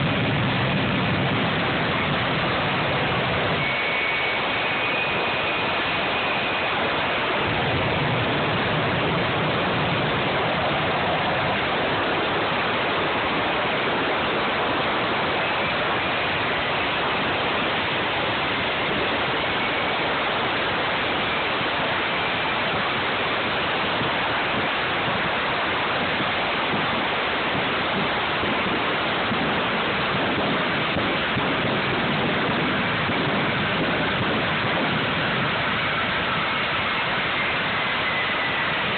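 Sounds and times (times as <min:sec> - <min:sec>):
faint high whine: 0:00.0 - 0:38.9
jet engine roaring: 0:00.0 - 0:38.9.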